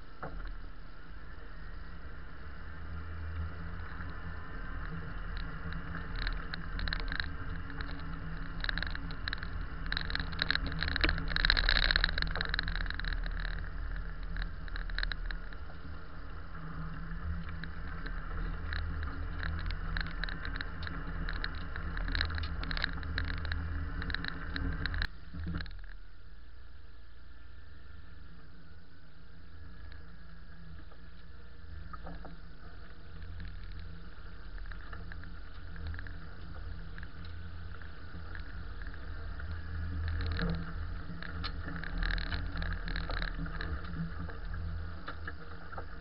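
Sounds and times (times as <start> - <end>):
vehicle engine rumble: 0.0 - 46.0
clicks and knocks from tyres: 3.4 - 26.0, 29.8 - 46.0.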